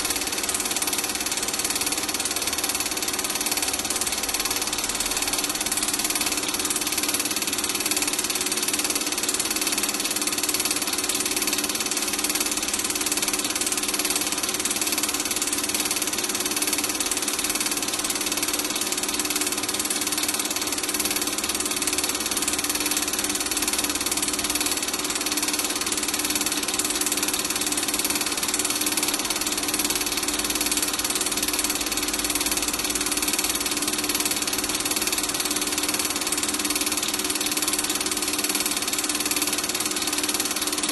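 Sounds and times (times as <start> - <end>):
film projector motor whirring: 0.0 - 40.9.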